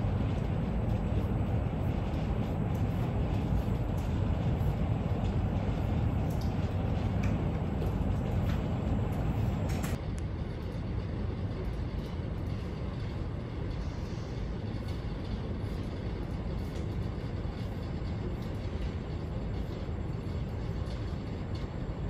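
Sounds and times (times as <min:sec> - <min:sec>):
low room rumble: 0:00.0 - 0:22.0.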